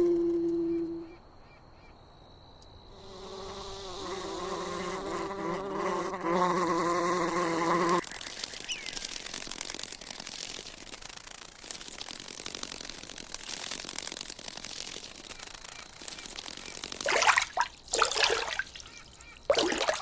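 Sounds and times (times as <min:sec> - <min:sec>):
insect wing buzz: 0:02.8 - 0:20.0.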